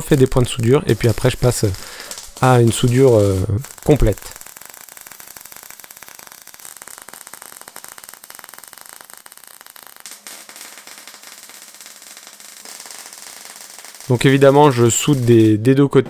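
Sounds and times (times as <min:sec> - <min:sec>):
electric arc welding crackle: 0:00.0 - 0:15.8.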